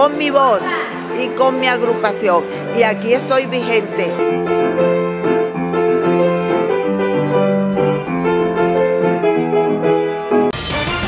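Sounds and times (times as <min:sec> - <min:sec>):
solo piano tune: 0:00.0 - 0:10.5.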